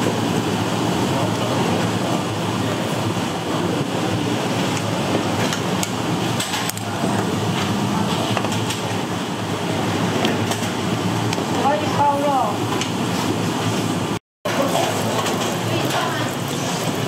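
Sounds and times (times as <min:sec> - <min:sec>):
busy restaurant kitchen din: 0:00.0 - 0:17.0.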